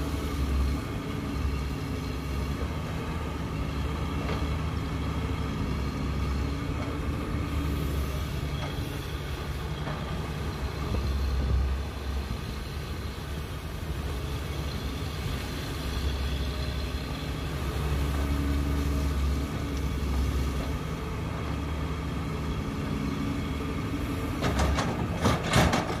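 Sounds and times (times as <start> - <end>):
excavator diesel engine labouring: 0.0 - 26.0.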